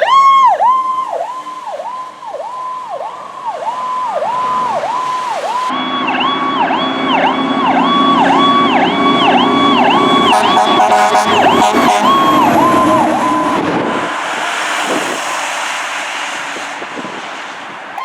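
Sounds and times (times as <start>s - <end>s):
emergency vehicle siren: 0.0s - 16.6s.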